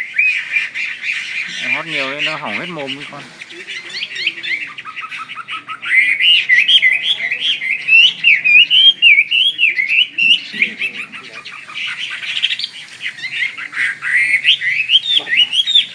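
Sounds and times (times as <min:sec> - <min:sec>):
bird singing whistled song: 0:00.0 - 0:15.9.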